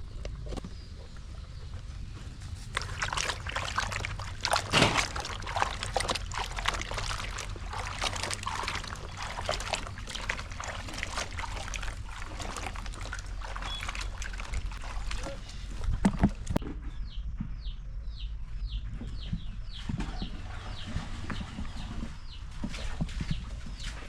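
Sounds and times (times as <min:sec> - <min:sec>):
water splashing and sloshing: 0:00.0 - 0:16.6, 0:19.7 - 0:24.0.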